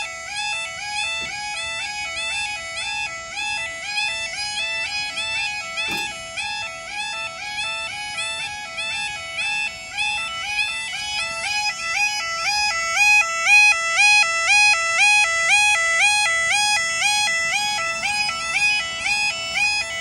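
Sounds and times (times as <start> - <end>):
two-tone crossing alarm: 0.0 - 20.0.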